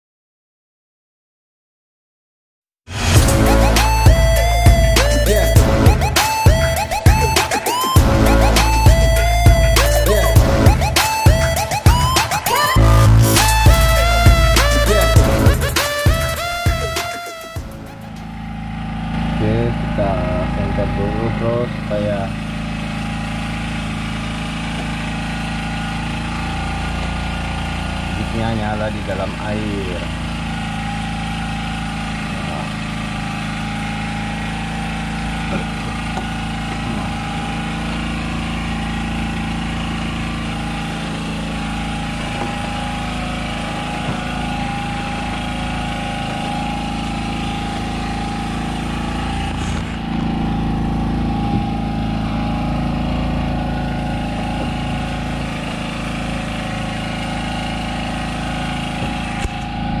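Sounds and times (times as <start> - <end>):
boat engine idling: 3.1 - 60.0.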